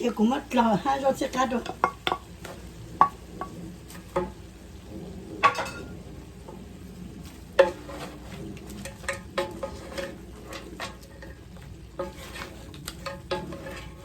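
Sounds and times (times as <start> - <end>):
low sizzle: 0.0 - 14.0
spatula scraping pan: 0.0 - 14.0.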